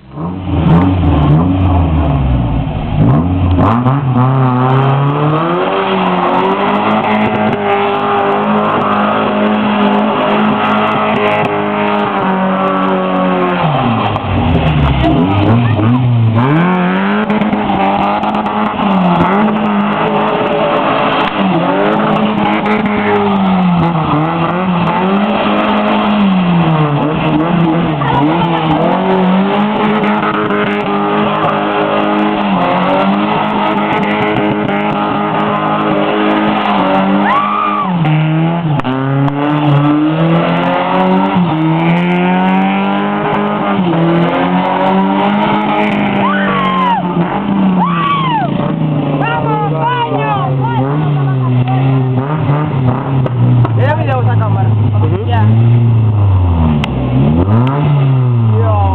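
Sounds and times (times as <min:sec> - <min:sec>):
car engine revving: 0:00.0 - 0:58.9
tires squealing: 0:00.0 - 0:58.9.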